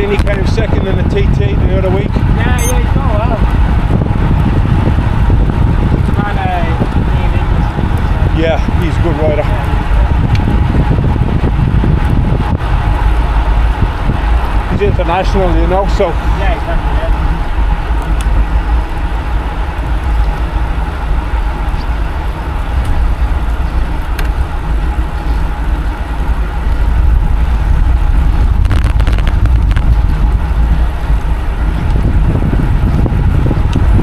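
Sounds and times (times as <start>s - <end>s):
wind and road noise from cycling: 0.0s - 34.0s.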